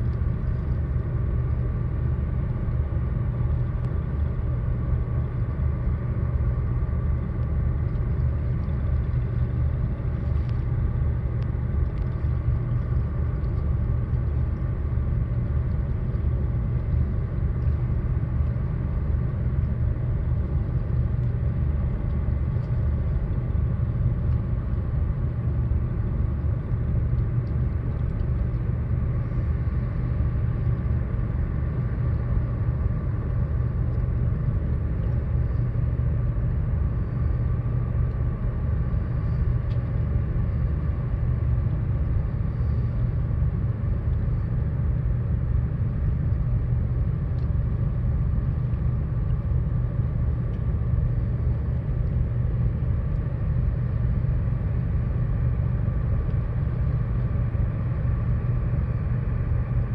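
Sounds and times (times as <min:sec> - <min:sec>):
low engine rumble: 0:00.0 - 0:59.9.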